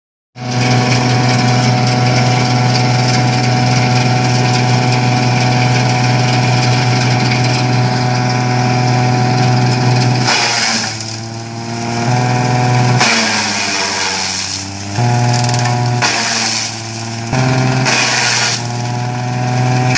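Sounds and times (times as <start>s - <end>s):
leaf shredder running: 0.4s - 19.9s
tractor engine: 0.4s - 19.9s.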